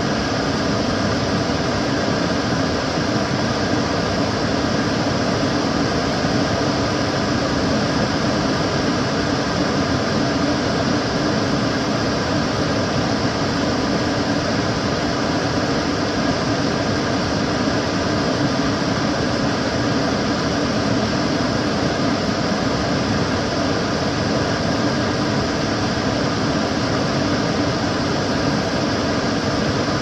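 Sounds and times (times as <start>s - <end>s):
extractor fan running: 0.0s - 30.0s.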